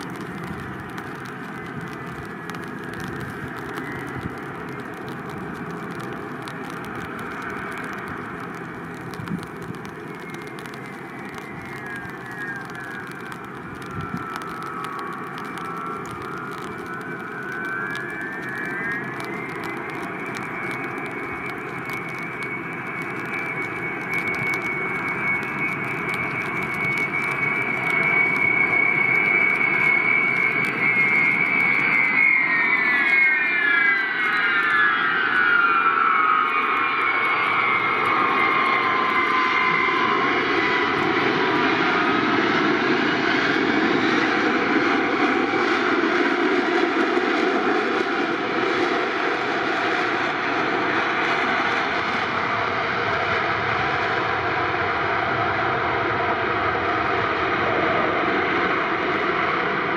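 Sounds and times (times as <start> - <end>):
jet engine rush: 0.0 - 59.9
turbofan whine: 0.0 - 59.9.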